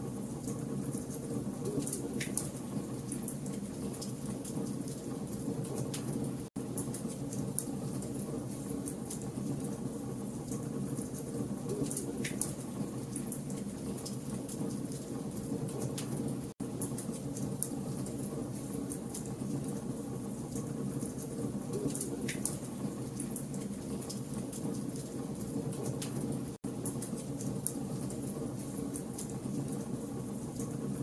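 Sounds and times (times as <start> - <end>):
fire crackles and pops: 0.3 - 30.8.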